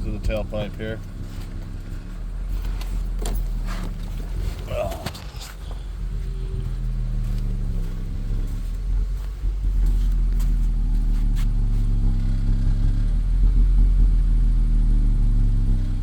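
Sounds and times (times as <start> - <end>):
car exhaust idling drone: 0.0 - 16.0.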